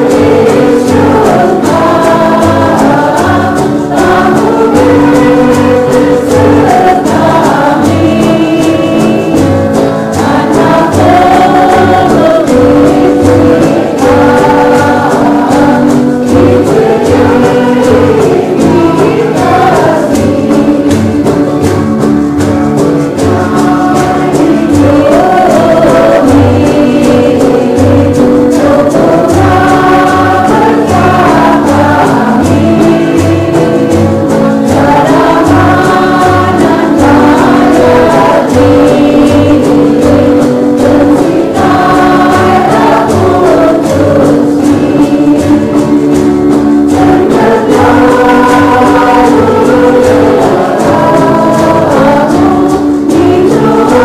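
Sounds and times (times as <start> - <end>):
choir singing with instruments: 0.0 - 54.0.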